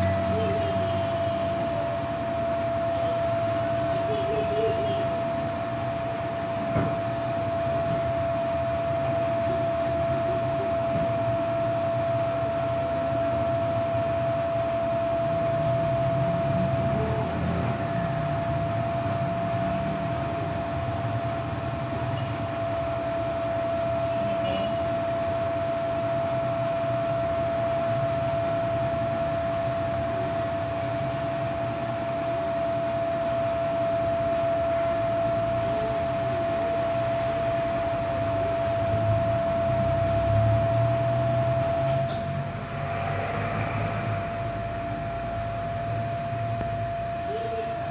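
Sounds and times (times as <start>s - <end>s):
steady whining hum: 0.0s - 47.9s.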